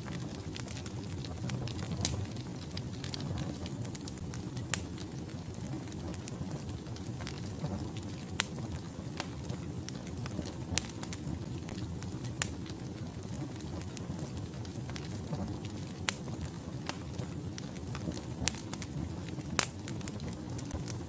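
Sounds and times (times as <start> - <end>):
fire crackling and popping: 0.0 - 21.0
fire flames rushing: 0.0 - 21.0.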